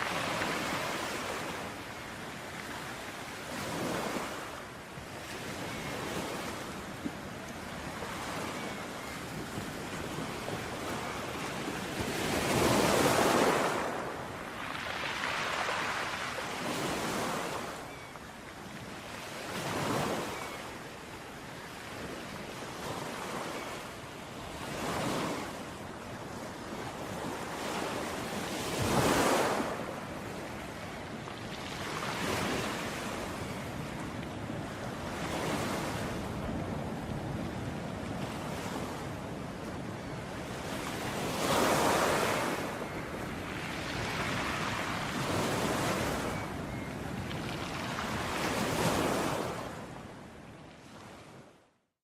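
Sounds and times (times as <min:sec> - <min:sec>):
ocean waves breaking: 0:00.0 - 0:18.1, 0:24.4 - 0:50.0.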